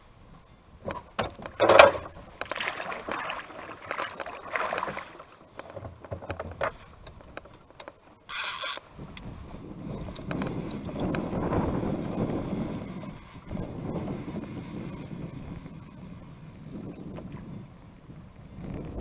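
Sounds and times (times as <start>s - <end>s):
water swishing and splashing: 0.0s - 19.0s.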